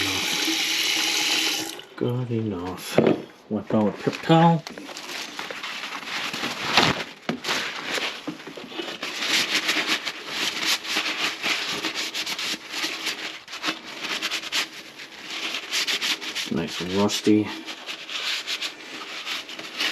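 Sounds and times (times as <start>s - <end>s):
paper towel scrubbing surface: 3.9s - 19.9s.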